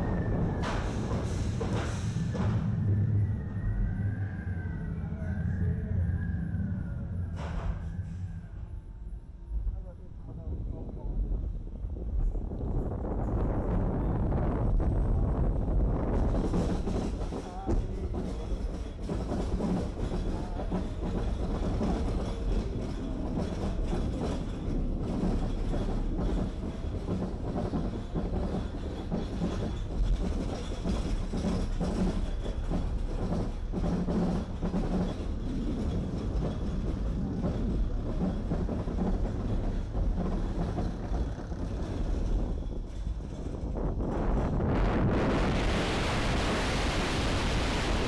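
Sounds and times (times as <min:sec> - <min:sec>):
roller coaster rumbling on track: 0:00.0 - 0:48.0.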